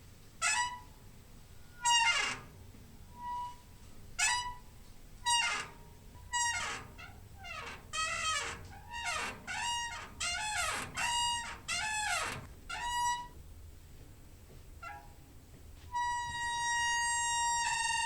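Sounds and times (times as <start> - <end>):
door hinge squeaking: 0.4 - 1.0, 1.6 - 13.4, 14.8 - 15.2, 16.0 - 18.0.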